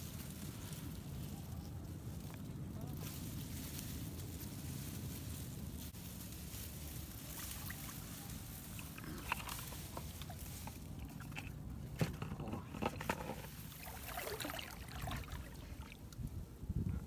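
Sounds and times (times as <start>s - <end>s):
tall grass rustling: 0.0s - 16.9s
low steady rumble: 0.0s - 17.0s.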